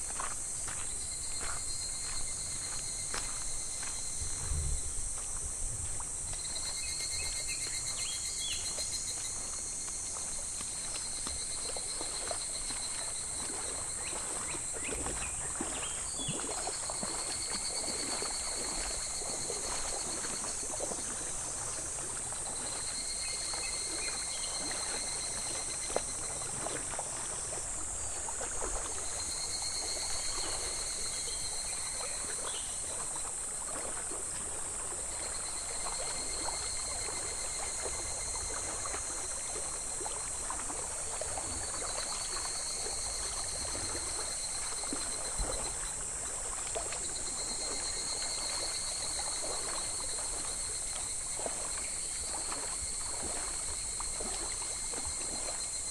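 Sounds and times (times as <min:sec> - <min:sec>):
cicada chorus: 0:00.0 - 0:55.9
stream babbling over pebbles: 0:04.2 - 0:55.9.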